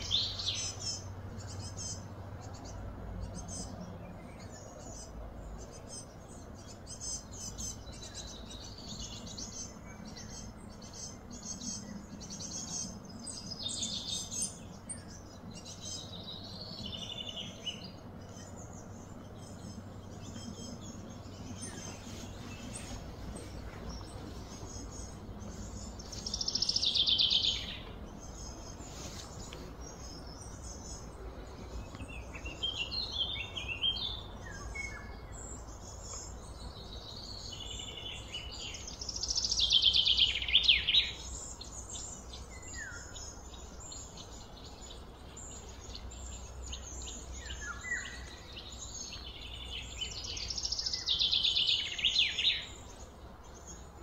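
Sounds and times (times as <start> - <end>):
bird chirps: 0.0 - 54.0
bird song phrase: 0.0 - 54.0
steady low background hum: 0.0 - 54.0.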